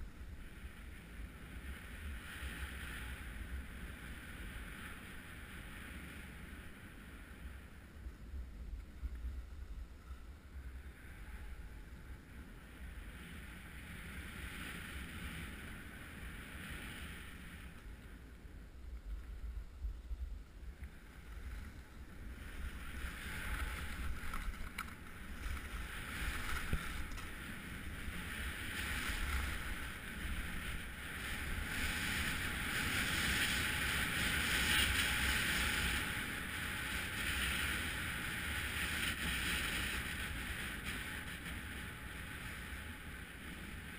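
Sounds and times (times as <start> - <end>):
skis scraping over snow: 0.0 - 7.6, 12.8 - 18.0, 20.9 - 43.9
wind rumbling on microphone: 0.0 - 43.9.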